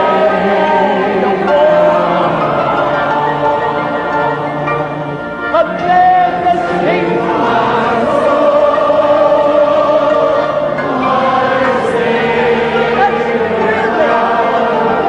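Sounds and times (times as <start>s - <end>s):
choir singing sustained notes: 0.0s - 15.0s.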